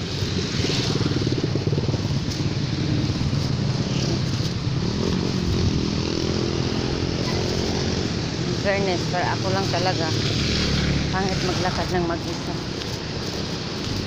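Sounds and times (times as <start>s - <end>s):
motorcycle engines passing: 0.0s - 14.0s
tyres on wet road: 0.0s - 14.0s.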